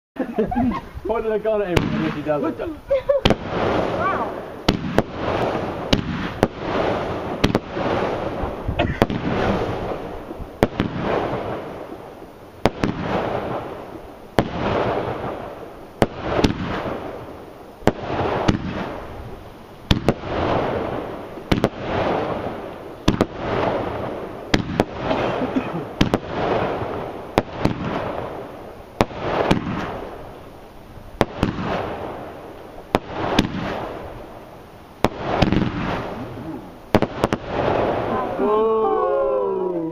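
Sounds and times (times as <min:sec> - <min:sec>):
hissing crackling firework tail: 0:00.2 - 0:39.9
firework shots banging: 0:01.1 - 0:38.5.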